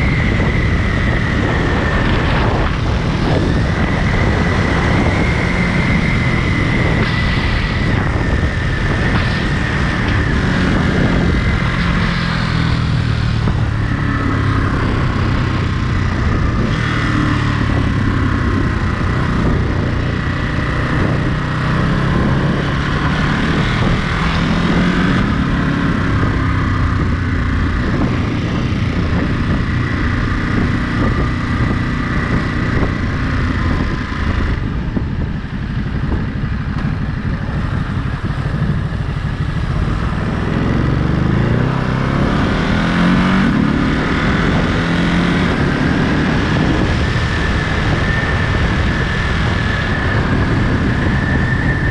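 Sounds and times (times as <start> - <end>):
motorcycle engine running: 0.0 - 51.9
wind noise: 0.0 - 51.9.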